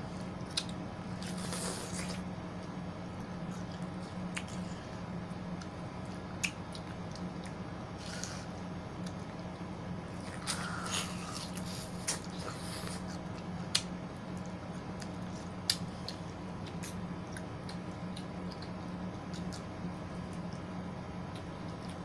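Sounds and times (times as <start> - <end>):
wet chewing of fruit: 0.2 - 22.0.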